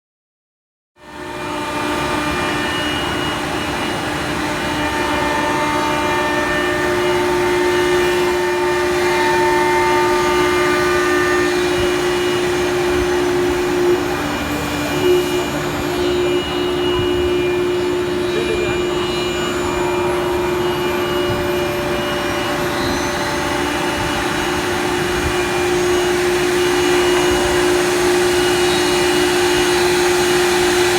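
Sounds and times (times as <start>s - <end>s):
cnc router whining: 1.0s - 30.9s.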